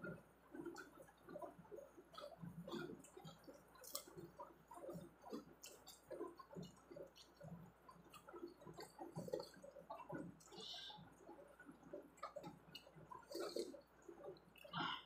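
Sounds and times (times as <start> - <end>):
faint chewing: 0.5 - 15.0.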